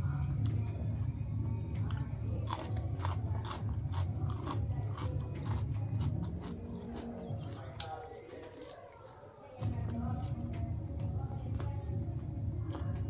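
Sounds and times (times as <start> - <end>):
crunchy food chewing: 0.0 - 13.0.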